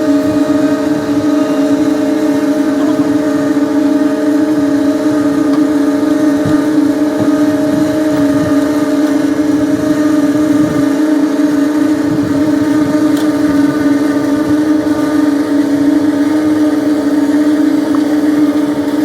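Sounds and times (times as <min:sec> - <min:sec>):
construction machine engine droning: 0:00.0 - 0:19.0.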